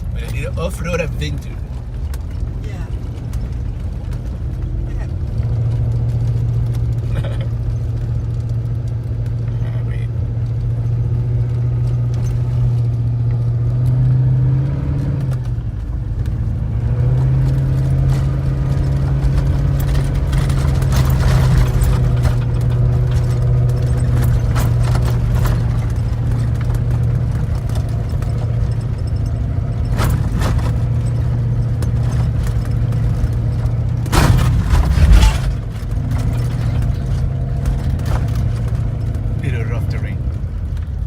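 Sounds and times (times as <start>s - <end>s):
clunks and rattles: 0.0s - 41.0s
engine running at low revs: 0.0s - 41.0s.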